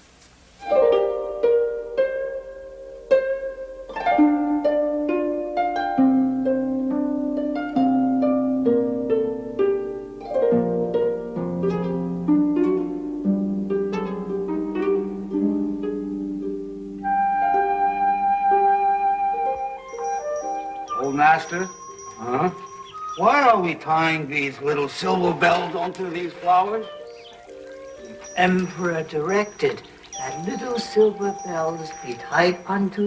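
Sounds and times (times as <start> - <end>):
harp-like plucked music: 0.6 - 33.0.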